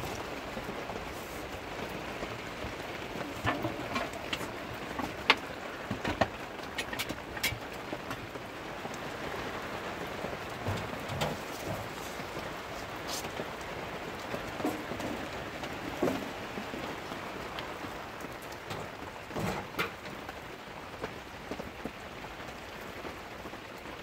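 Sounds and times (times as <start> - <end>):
rain on a canvas tent: 0.0 - 24.0.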